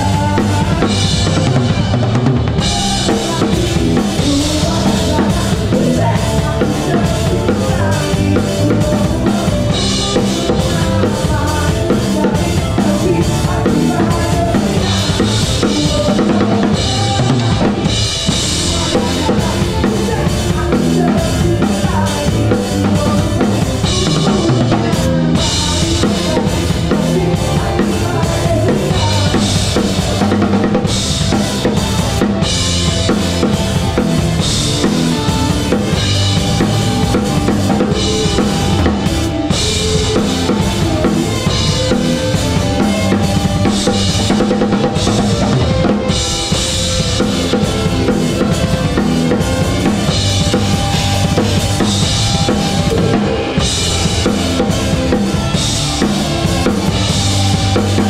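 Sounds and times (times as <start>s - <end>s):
bass and band instruments: 0.0s - 58.0s
drum kit groove: 0.0s - 58.0s.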